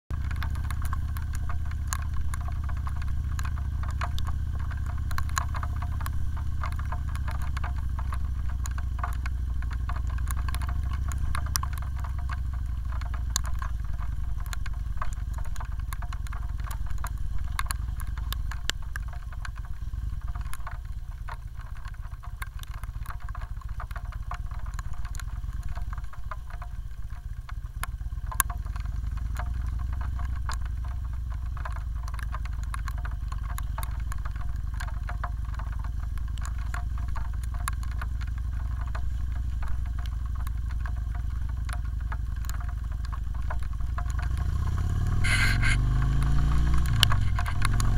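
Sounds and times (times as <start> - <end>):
motorcycle engine rumbling: 0.1 - 47.9
raindrops ticking on windscreen: 0.1 - 47.9.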